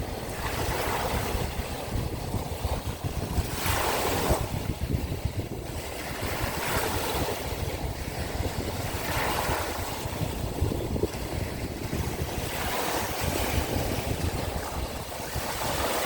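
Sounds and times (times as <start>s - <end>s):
sea waves breaking on shore: 0.0s - 16.0s
wind rumbling on microphone: 0.0s - 16.0s.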